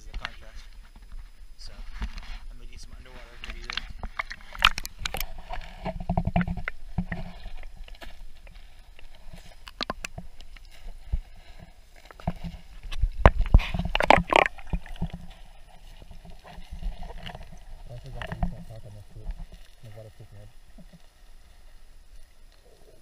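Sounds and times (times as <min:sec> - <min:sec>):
muffled underwater water movement: 0:00.0 - 0:23.0.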